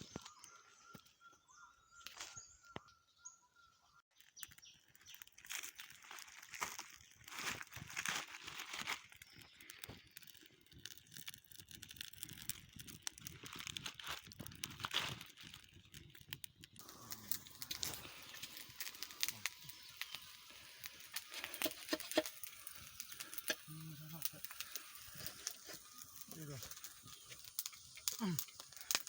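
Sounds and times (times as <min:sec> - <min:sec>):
rustling and crackling: 0:04.2 - 0:29.0.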